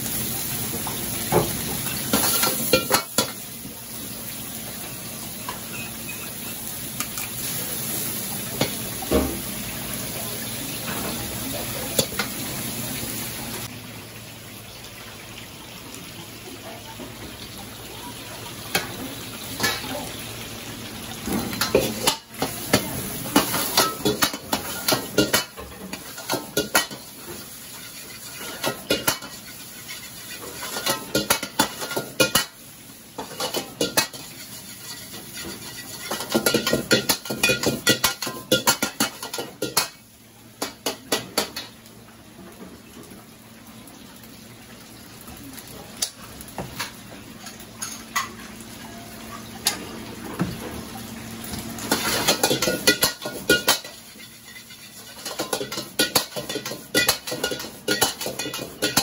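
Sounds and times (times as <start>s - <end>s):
food sizzling: 0.0s - 59.0s.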